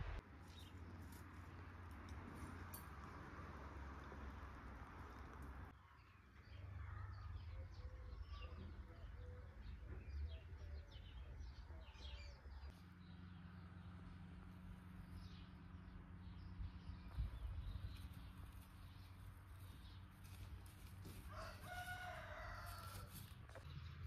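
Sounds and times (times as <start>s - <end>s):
faint low rumble: 0.0s - 21.3s
small birds chirping: 0.2s - 3.2s, 4.0s - 24.0s.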